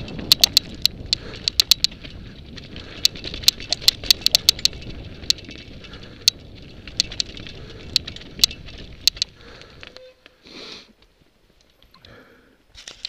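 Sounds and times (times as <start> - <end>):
bike clicks and clatters: 0.0 - 10.4, 11.0 - 13.0
bike tyre rumble on dirt: 0.0 - 13.0.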